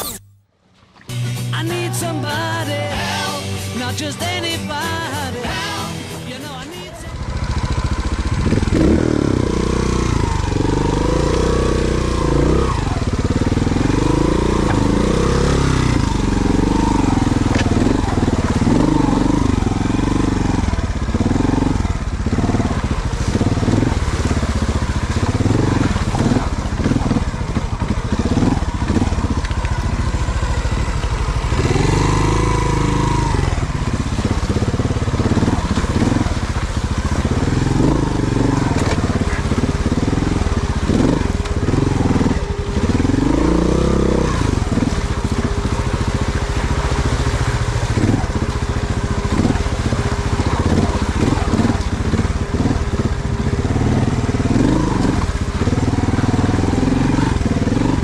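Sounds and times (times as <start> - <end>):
motorcycle engine revving: 7.0 - 58.0
water splashing: 7.0 - 58.0.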